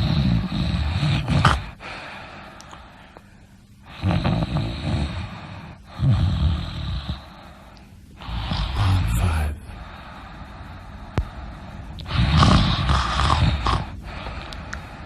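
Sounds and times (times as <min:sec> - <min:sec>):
person snoring: 0:00.0 - 0:02.0, 0:03.8 - 0:07.6, 0:08.2 - 0:15.0.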